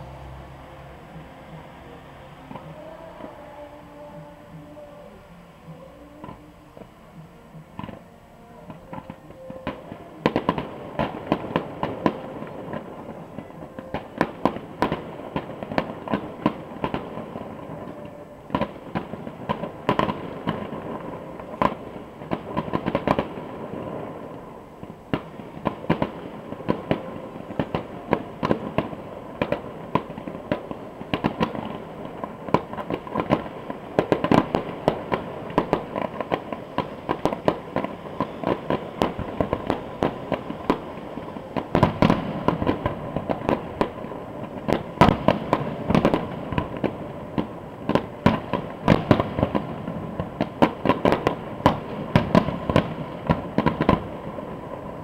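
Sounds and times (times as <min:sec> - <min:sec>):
fireworks bangs and crackles: 0:01.1 - 0:04.8, 0:07.7 - 0:55.0.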